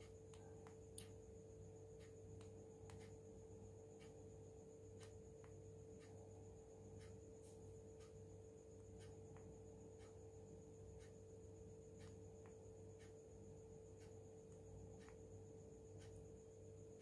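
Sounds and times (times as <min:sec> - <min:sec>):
faint ticks: 0:00.0 - 0:17.0
steady low hum: 0:00.0 - 0:17.0.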